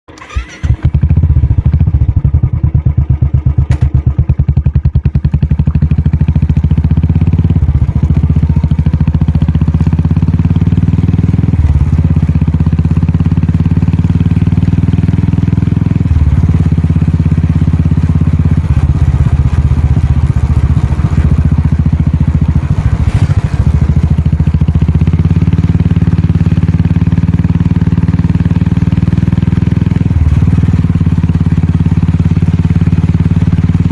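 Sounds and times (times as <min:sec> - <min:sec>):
motorcycle engine thumping: 0:00.2 - 0:33.9.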